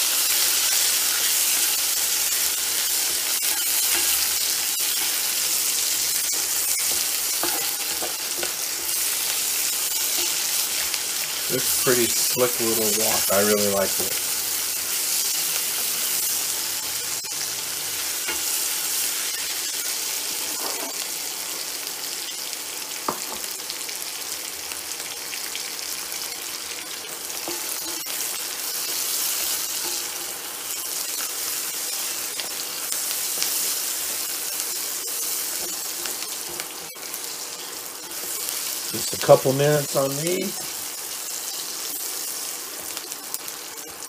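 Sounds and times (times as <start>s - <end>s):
onions sizzling in a wok: 0.0s - 44.0s.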